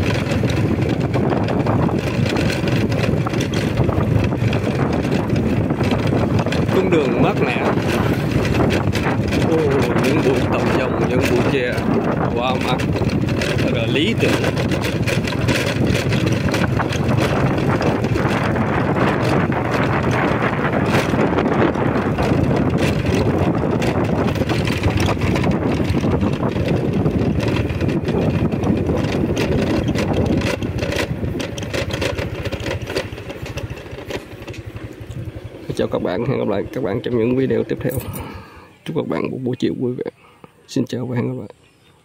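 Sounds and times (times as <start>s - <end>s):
motorbike engine running: 0.0s - 39.7s
wind rushing over microphone: 0.0s - 41.6s.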